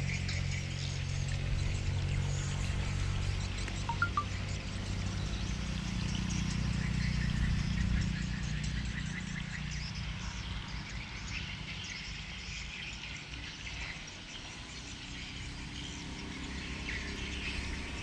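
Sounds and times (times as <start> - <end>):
birds chirping: 0.4 - 18.0.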